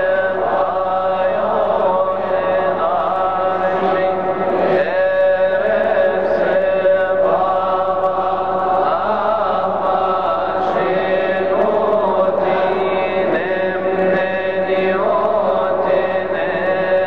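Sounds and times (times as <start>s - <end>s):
male choir chanting a hymn: 0.0s - 17.0s.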